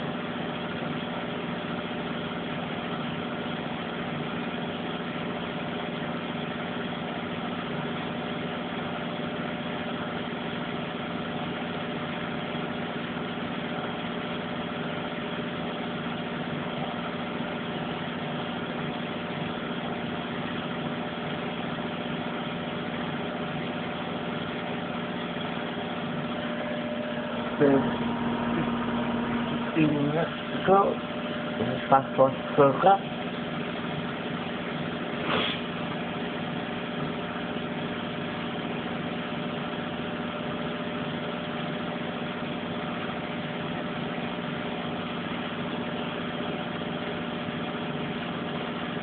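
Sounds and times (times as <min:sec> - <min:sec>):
washing machine spinning: 0:00.0 - 0:49.0.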